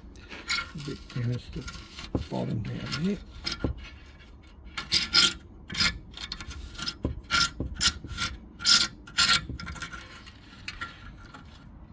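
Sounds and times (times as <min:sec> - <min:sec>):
hand tool scraping metal: 0:00.2 - 0:11.6.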